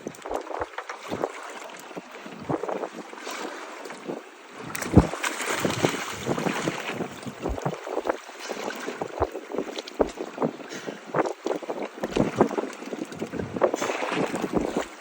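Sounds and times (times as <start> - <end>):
water splashing: 0.0 - 15.0
wind buffeting microphone: 0.0 - 15.0.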